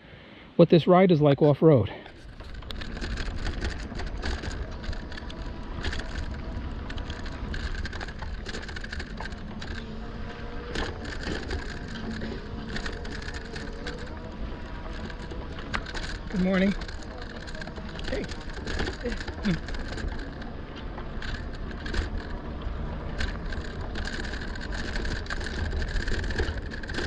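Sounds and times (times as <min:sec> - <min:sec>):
bike tyres rolling on a dirt trail: 0:02.0 - 0:27.0.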